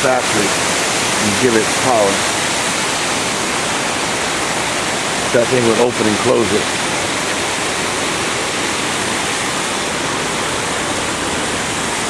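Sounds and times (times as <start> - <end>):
water rushing over a dam: 0.0 - 12.0.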